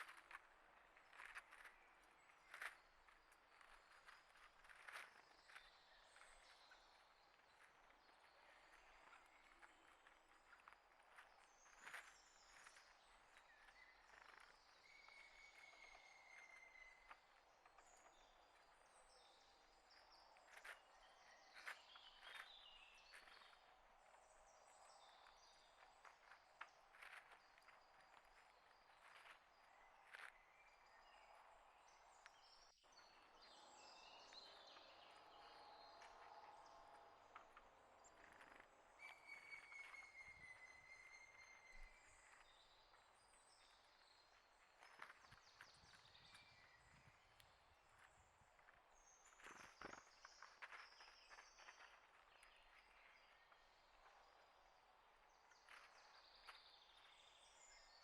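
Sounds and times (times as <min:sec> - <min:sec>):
faint songbirds chirping: 0:00.0 - 0:58.0.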